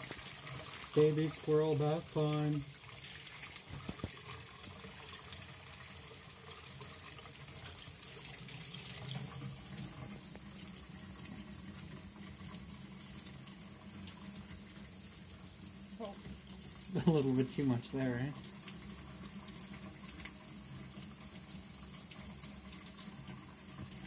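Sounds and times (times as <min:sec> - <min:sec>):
tap water pouring into tub: 0:00.0 - 0:24.0.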